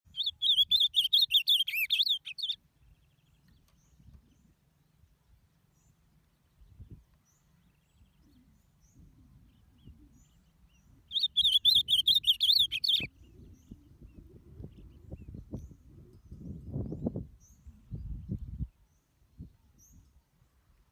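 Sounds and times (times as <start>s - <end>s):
faint bird chirps: 0.1s - 20.4s
bird warbled song: 0.1s - 20.7s.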